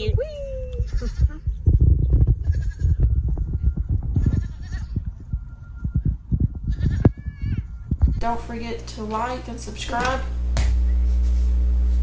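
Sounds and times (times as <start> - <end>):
heavy low rumble: 0.0 - 12.0.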